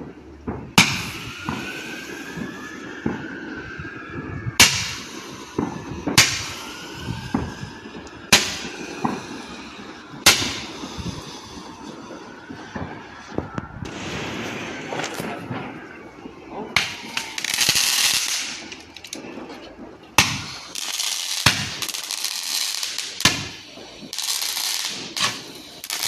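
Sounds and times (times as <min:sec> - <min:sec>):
fireworks bangs: 0:00.0 - 0:26.0
fireworks crackling: 0:00.0 - 0:26.0
fireworks popping: 0:00.0 - 0:26.0
gliding whistles: 0:00.9 - 0:26.0.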